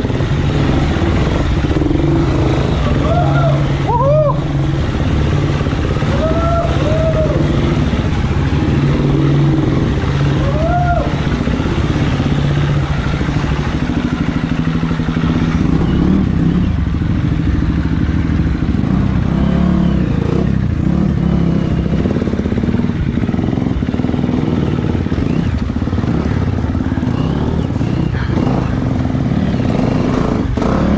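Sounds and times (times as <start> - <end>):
engine clatter: 0.0 - 30.9
motorcycle engine revving unevenly: 0.0 - 30.9.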